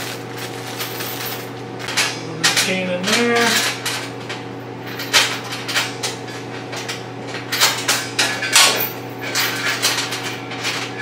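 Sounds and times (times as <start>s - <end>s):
metal chain clinking and rattling: 0.0s - 4.1s, 4.8s - 6.0s, 6.8s - 11.0s.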